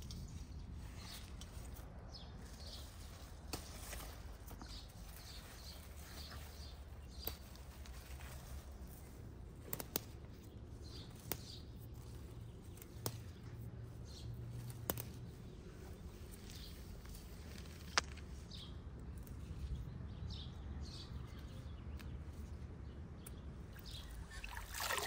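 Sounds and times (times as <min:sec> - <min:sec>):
birds chirping: 0:00.0 - 0:09.1, 0:09.7 - 0:25.0.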